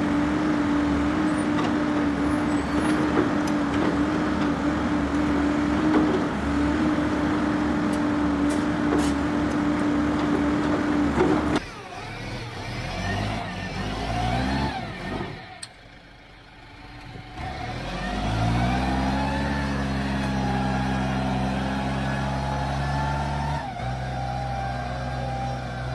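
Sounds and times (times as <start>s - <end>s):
engine running with steady hum: 0.0s - 25.9s
engines revving: 0.0s - 25.9s.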